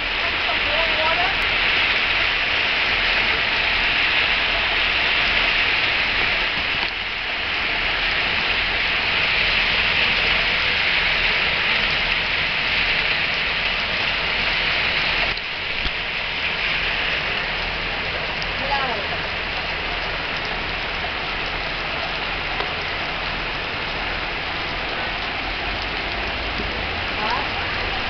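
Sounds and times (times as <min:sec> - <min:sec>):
torrential rain on a street: 0:00.0 - 0:28.0.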